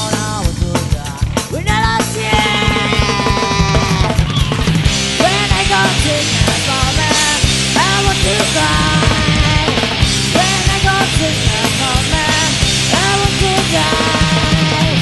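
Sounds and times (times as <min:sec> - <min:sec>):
grunge rock band playing: 0:00.0 - 0:15.0.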